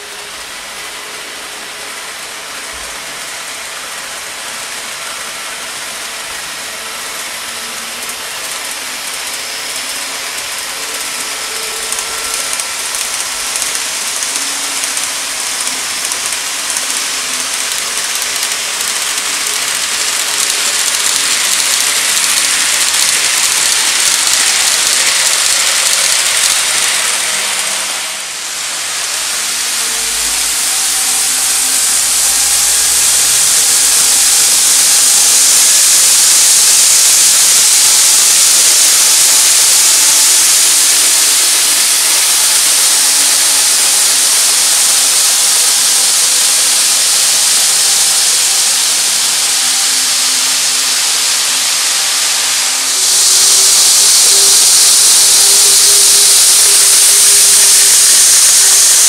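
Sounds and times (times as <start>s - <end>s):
faint motor whine: 0.0s - 59.0s
model train wheels rattling: 0.0s - 59.0s.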